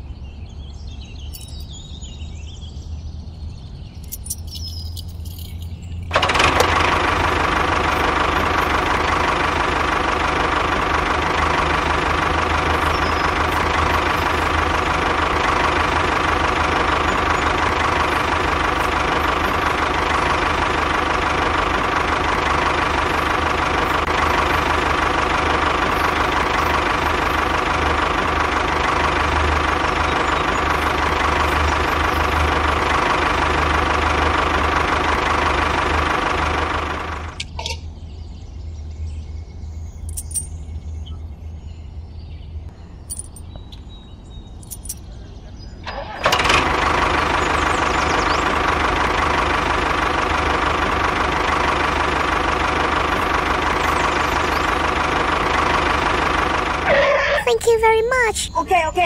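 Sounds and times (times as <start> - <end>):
small tractor engine drone: 0.0 - 59.0.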